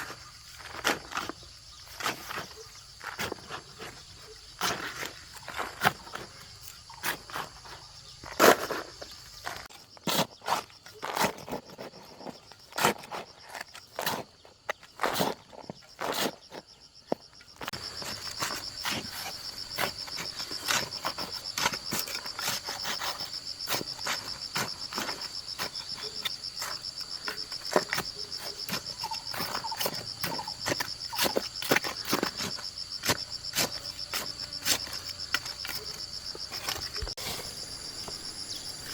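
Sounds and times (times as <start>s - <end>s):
high insect trill: 0.0s - 38.9s.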